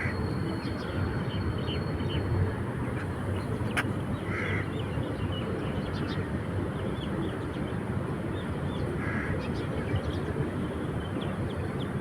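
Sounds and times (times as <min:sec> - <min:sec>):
sea and wind rushing: 0:00.0 - 0:12.0.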